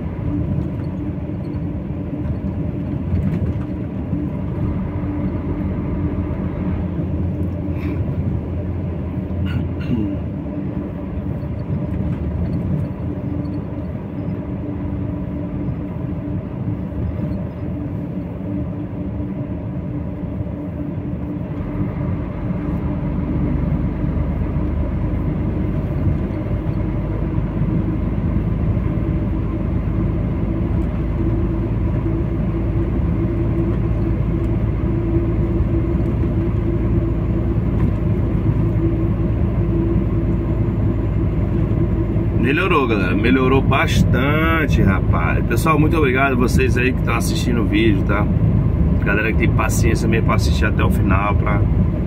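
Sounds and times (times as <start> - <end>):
truck engine and tyre drone: 0.0 - 52.0.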